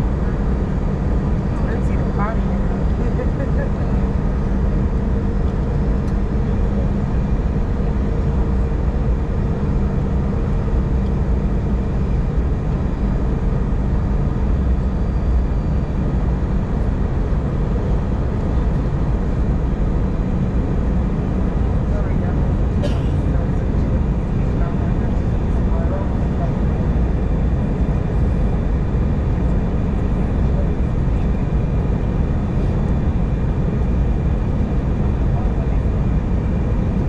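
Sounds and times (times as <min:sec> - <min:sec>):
airliner cabin engine rush: 0:00.0 - 0:37.0.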